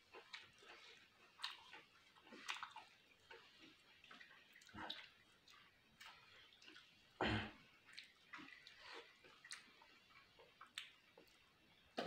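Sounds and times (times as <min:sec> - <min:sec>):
wet chewing sounds: 0:00.0 - 0:12.0.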